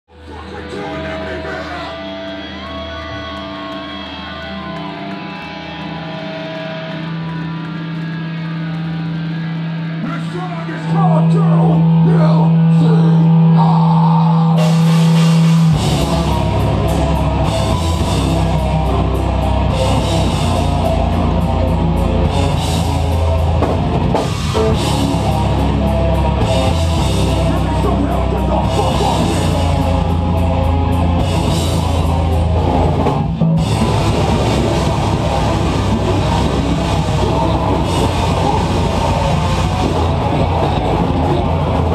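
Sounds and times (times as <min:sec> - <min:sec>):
heavy metal band playing live: 0:00.1 - 0:41.9.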